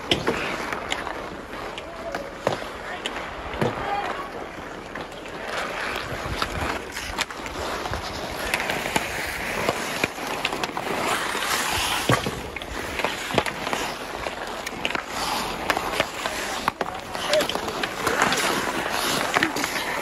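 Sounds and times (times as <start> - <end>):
hockey sticks clacking: 0.0 - 20.0
skate blades scraping ice: 0.0 - 20.0.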